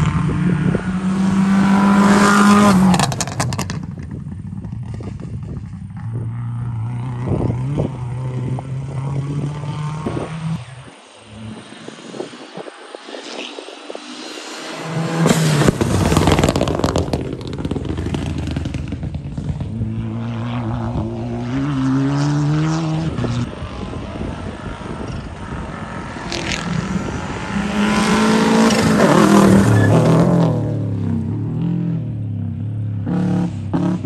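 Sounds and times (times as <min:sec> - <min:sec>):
rally car engines accelerating: 0:00.0 - 0:03.9, 0:04.8 - 0:32.0
rally car passing on gravel: 0:00.8 - 0:31.0.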